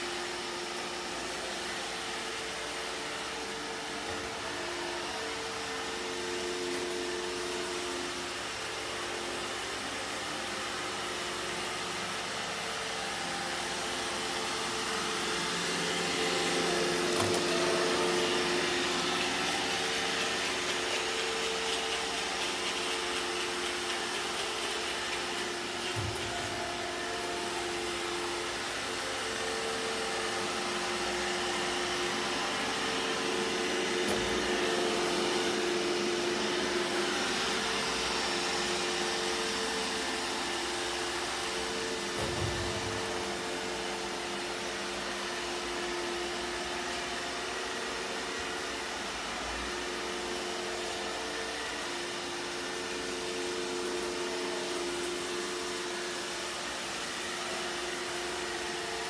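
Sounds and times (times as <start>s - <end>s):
robot vacuum whirring: 0.7s - 59.0s.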